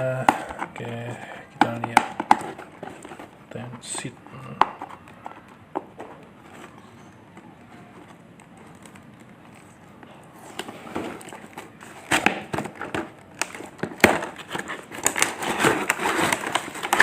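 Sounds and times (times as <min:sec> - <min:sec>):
rustling packaging: 0:00.0 - 0:17.0.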